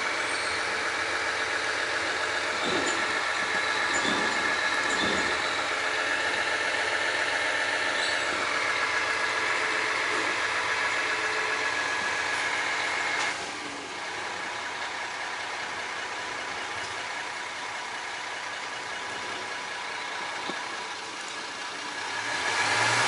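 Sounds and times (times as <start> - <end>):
garbage truck engine running: 0.0 - 23.0.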